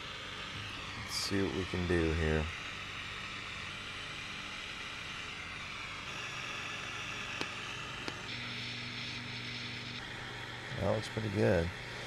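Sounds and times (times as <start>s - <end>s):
gas torch hissing: 0.0s - 12.0s
low hum: 0.0s - 12.0s.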